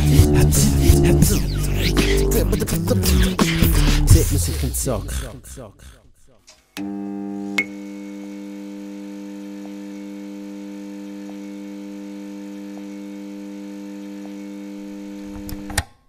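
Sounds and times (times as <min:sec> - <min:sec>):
neon sign buzzing: 0:00.0 - 0:06.0, 0:06.8 - 0:15.7.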